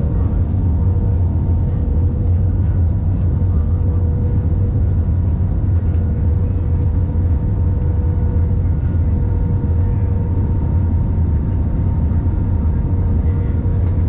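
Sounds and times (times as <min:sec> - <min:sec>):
low drone of engines and airflow: 0:00.0 - 0:14.0.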